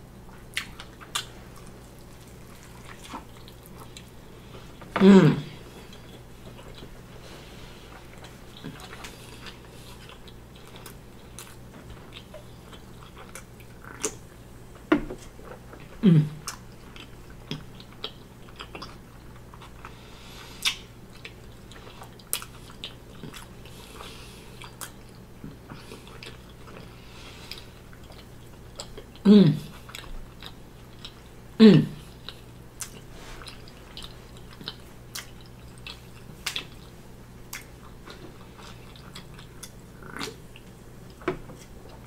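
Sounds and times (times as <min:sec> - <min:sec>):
chewing with moist clicks: 0:00.3 - 0:04.9, 0:05.8 - 0:07.0, 0:07.9 - 0:19.9, 0:20.6 - 0:31.4, 0:32.0 - 0:42.0.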